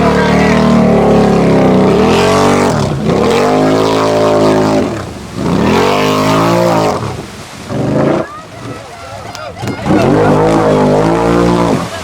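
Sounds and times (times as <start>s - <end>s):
atv engine revving: 0.0s - 8.8s, 9.6s - 12.0s.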